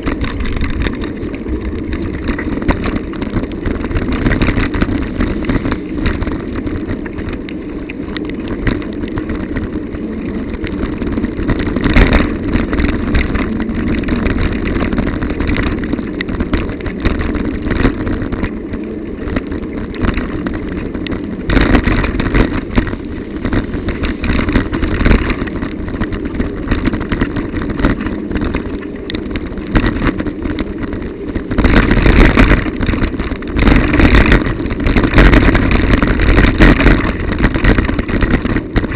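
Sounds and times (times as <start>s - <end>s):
bicycle tyres rumbling on road: 0.0s - 38.9s.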